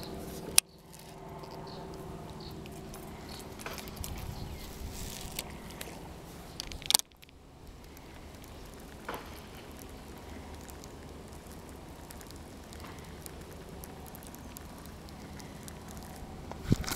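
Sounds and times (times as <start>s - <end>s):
fishing reel ticking and whirring: 0.0s - 16.9s.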